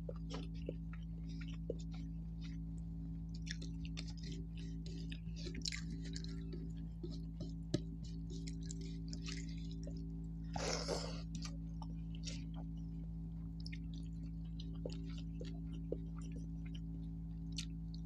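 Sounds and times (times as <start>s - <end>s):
low hum: 0.0s - 18.0s
wet chewing smacks: 0.0s - 18.0s.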